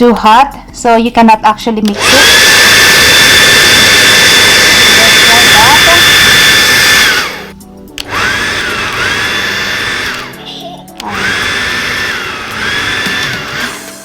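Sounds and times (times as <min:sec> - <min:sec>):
hair dryer blowing: 0:01.9 - 0:14.0.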